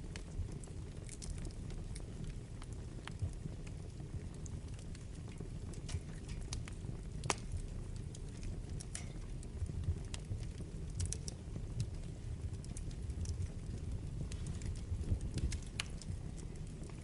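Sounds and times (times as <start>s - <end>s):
fire crackling and popping: 0.0s - 17.0s
flames rushing: 0.0s - 17.0s.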